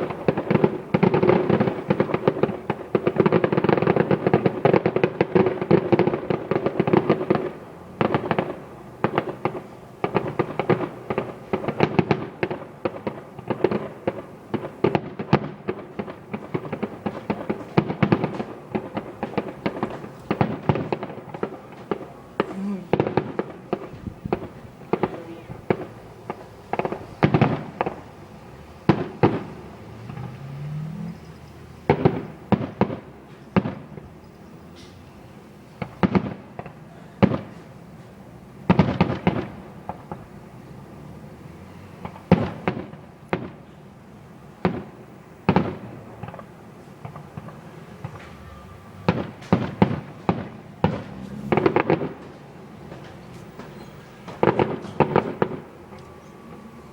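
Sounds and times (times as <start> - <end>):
crackling pops: 0.0 - 34.2, 44.6 - 48.4, 49.1 - 56.8
fireworks bangs: 0.0 - 56.9.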